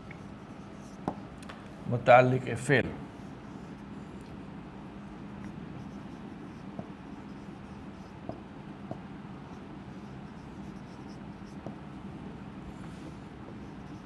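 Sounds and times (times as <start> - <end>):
marker scratching on whiteboard: 0.0 - 1.3, 3.1 - 14.0
steady low hum: 0.0 - 14.0.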